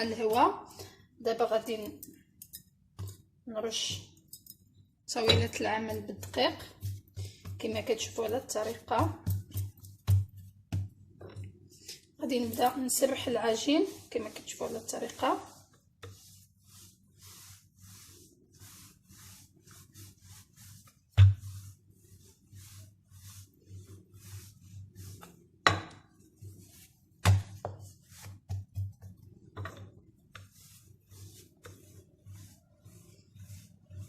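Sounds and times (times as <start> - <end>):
rolling pin rubbing over dough: 5.1 - 34.0.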